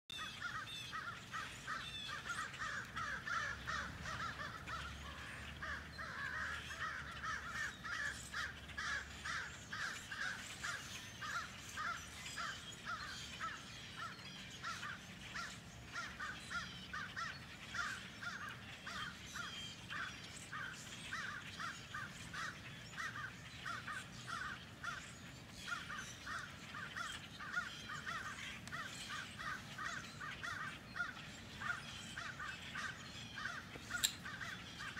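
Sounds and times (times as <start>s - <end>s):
flock of blackbirds chattering: 0.1s - 34.9s.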